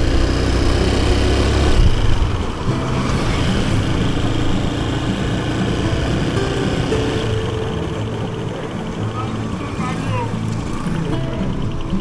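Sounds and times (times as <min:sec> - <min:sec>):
motorcycle engine running: 0:00.0 - 0:12.0
road traffic: 0:00.0 - 0:12.0.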